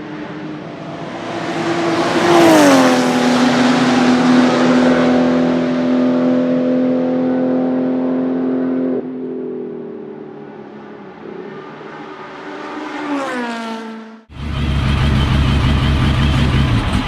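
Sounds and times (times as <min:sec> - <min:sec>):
racing car passing at speed: 0:00.0 - 0:17.0.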